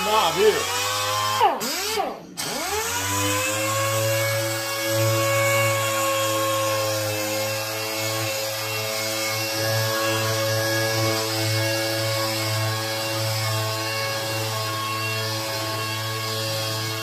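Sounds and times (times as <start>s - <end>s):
air sander whining: 0.0s - 17.0s.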